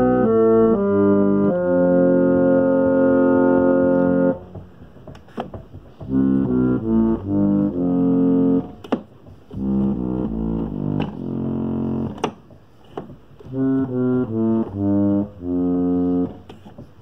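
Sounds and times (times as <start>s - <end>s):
reed pump organ chords: 0.0s - 17.0s.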